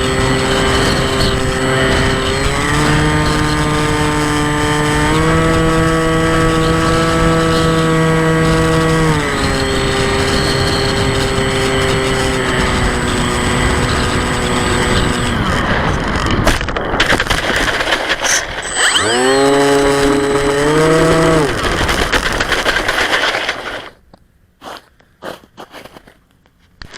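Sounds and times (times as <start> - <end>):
wind on microphone: 0.0 - 23.9
model aircraft motor and propeller: 0.0 - 24.0.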